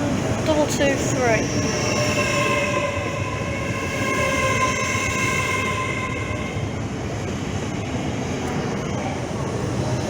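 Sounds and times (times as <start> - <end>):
electric train whine: 0.0 - 10.0
train low rumble: 0.0 - 10.0.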